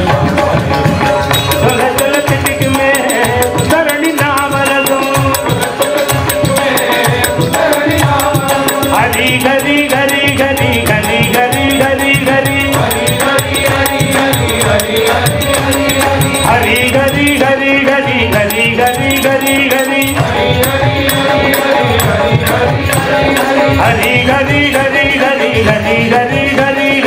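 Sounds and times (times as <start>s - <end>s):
instrumental accompaniment: 0.0s - 27.0s
man singing: 0.0s - 27.0s
percussion steady beat: 0.0s - 27.0s.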